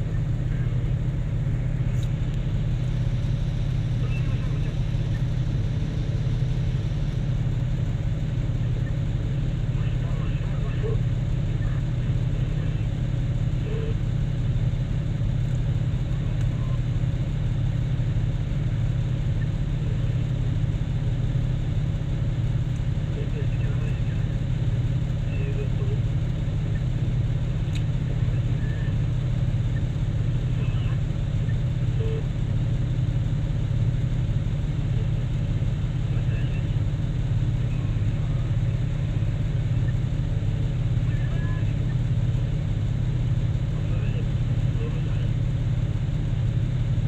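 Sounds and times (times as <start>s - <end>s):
heavy diesel engines droning: 0.0s - 47.0s.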